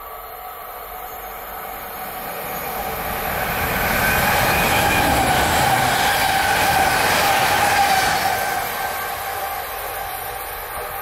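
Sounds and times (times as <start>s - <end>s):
electric train passing: 0.0s - 11.0s
steady train whine: 0.0s - 11.0s.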